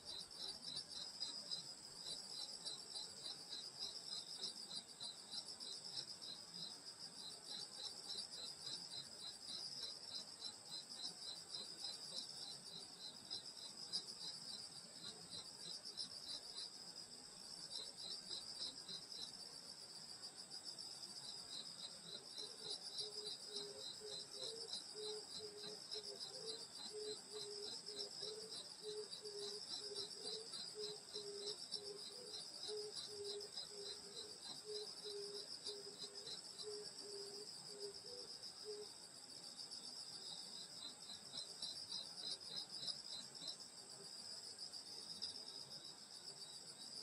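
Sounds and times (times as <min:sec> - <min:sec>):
crickets trilling: 0:00.0 - 0:47.0
insect chirping in pulses: 0:00.0 - 0:47.0.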